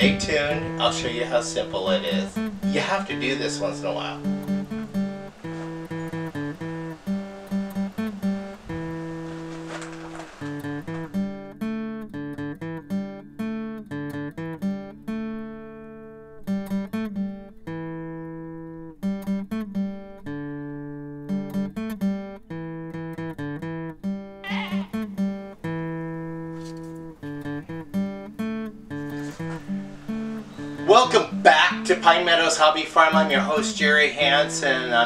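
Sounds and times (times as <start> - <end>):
plucked acoustic guitar: 0.0 - 35.0.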